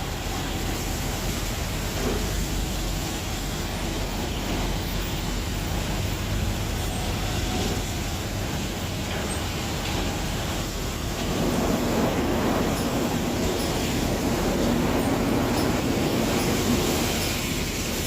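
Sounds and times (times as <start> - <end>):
car wash machinery rushing: 0.0 - 18.0.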